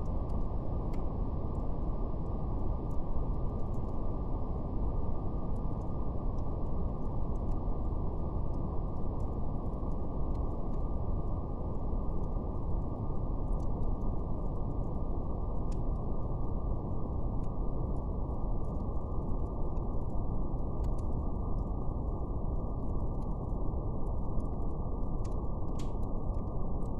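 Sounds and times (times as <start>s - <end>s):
faint fire crackles: 0.0s - 26.9s.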